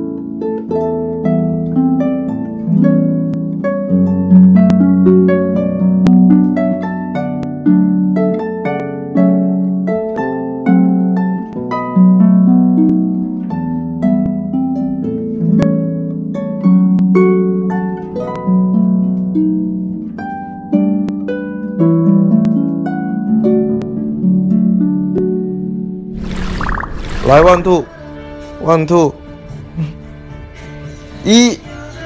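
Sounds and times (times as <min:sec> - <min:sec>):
plucked harp-like music: 0:00.0 - 0:27.8.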